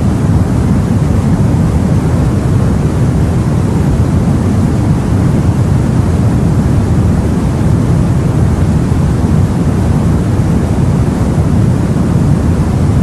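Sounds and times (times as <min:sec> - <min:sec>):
sea and wind rumble: 0:00.0 - 0:13.0.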